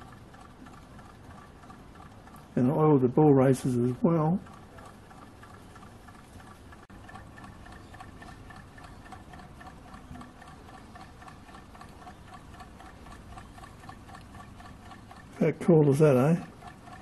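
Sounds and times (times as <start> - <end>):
stirling engine mechanical ticking: 0.0 - 17.0.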